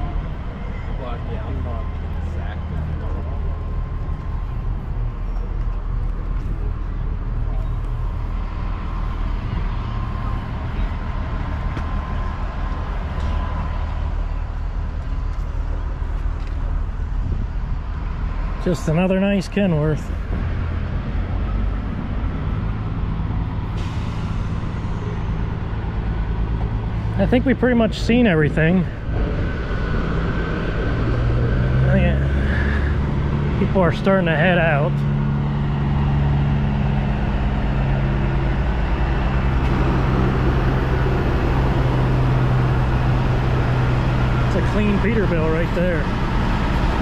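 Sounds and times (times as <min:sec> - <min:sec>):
diesel truck engine running: 0:00.0 - 0:47.0.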